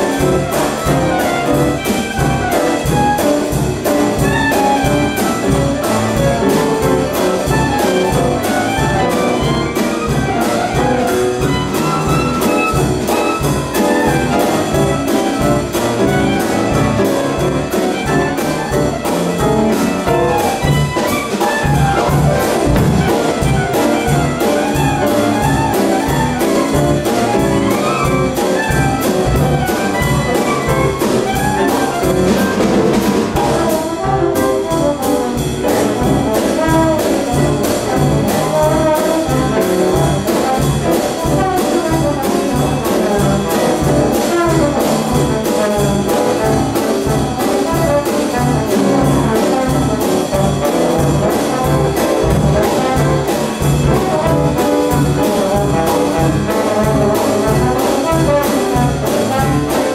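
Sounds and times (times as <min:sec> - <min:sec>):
clarinet: 0:00.0 - 0:59.9
jazz band playing: 0:00.0 - 0:59.9
trombone: 0:00.0 - 0:59.9.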